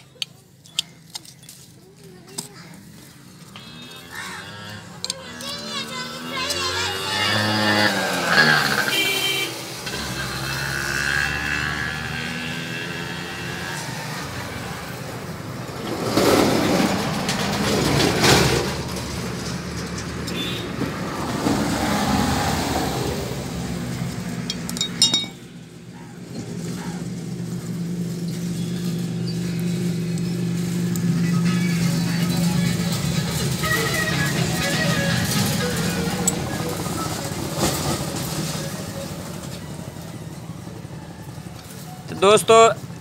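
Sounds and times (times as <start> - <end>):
vehicle engine humming: 0.0 - 43.0.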